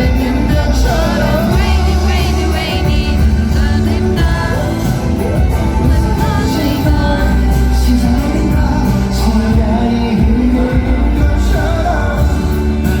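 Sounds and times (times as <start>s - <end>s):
man singing: 0.0s - 13.0s
pop backing track with heavy bass: 0.0s - 13.0s.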